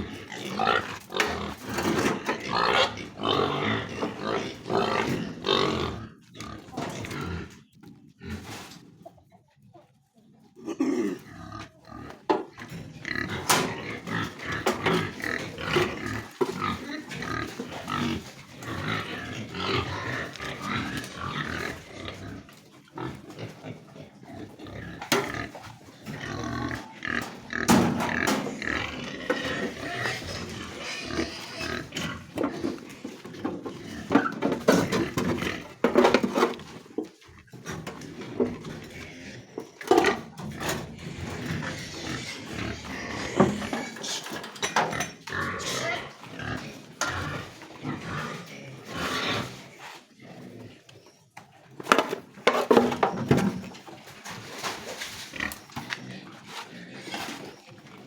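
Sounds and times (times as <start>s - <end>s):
pigs grunting and squealing: 0.0s - 58.0s.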